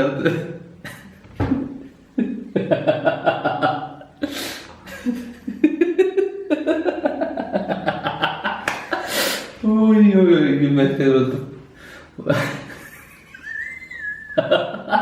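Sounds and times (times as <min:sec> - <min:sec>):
man laughing hard: 0:00.0 - 0:09.2, 0:12.2 - 0:15.0.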